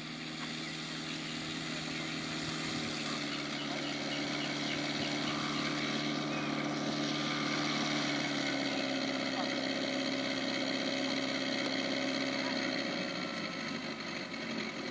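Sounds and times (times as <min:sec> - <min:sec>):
model plane engine idling: 0:00.0 - 0:14.9.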